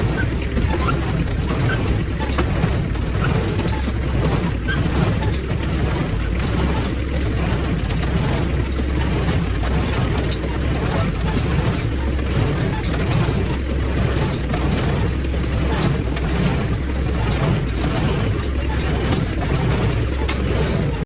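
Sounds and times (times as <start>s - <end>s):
hay baler running rhythmically: 0.0s - 21.0s.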